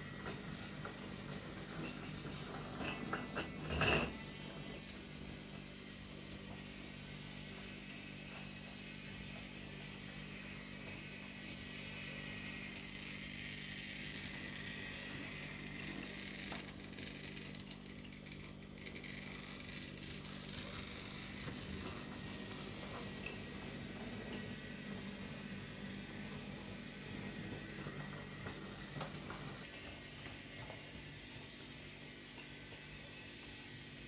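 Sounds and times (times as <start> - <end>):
high whirr: 0.0 - 34.0
toy train motor humming: 0.0 - 34.0.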